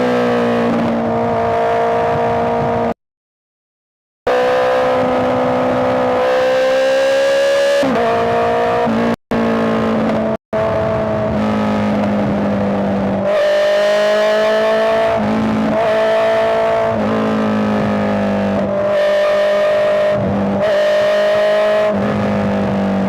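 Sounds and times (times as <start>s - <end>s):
motorcycle engine revving: 0.0s - 3.0s, 4.3s - 23.0s.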